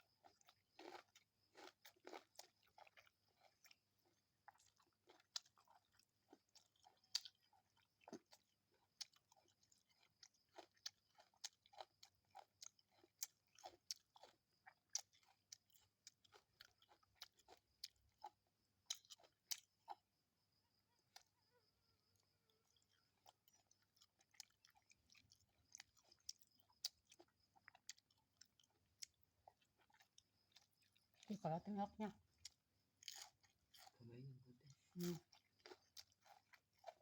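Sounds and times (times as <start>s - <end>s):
person chewing food: 0.0s - 31.4s, 32.2s - 37.0s.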